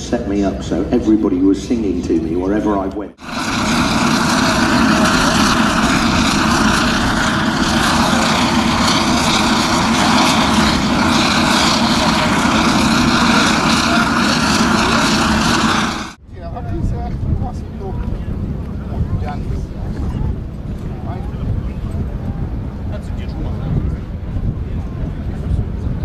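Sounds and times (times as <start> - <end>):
turboprop engines running: 0.0 - 26.0.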